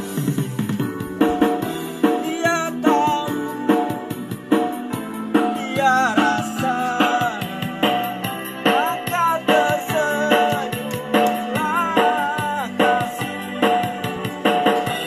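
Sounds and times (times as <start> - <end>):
song with steady beat: 0.0 - 15.0.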